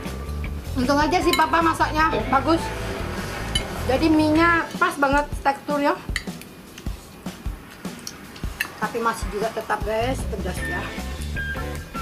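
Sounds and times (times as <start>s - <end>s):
soft music with low beat: 0.0s - 12.0s.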